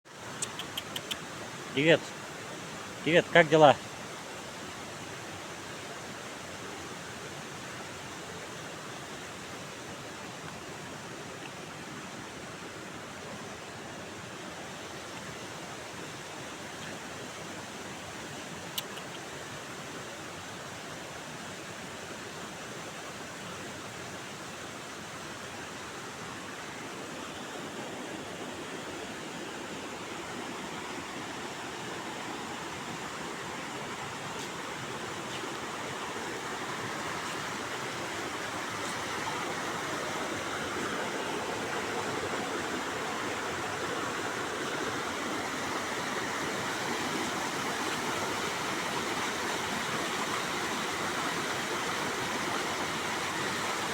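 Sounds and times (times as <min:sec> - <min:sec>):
stream water rushing: 0:00.1 - 0:53.9.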